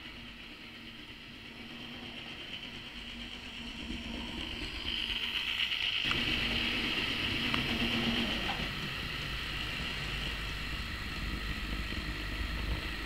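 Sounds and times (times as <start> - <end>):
model train motor whine: 0.0 - 13.0
wheels rolling on rails: 0.0 - 13.0.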